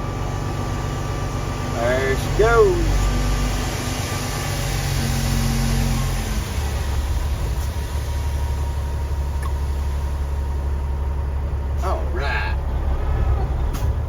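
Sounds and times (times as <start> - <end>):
truck diesel engine revving: 0.0 - 14.0.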